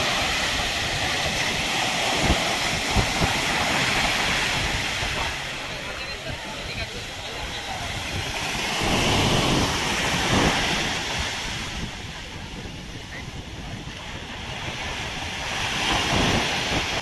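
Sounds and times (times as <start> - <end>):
surf breaking on beach: 0.0 - 17.0
wind on microphone: 0.0 - 17.0.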